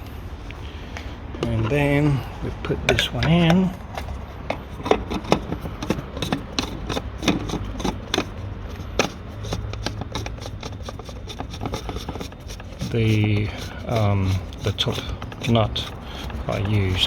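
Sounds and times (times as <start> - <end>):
hands handling oil filter parts: 0.0 - 17.0.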